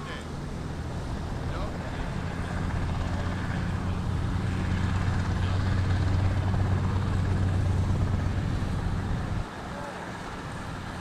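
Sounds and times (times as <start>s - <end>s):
jet bomber passing overhead: 0.1s - 11.0s.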